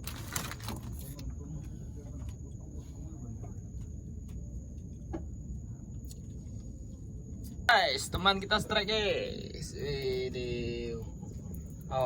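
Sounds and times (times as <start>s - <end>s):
low rumbling background: 0.0s - 12.0s.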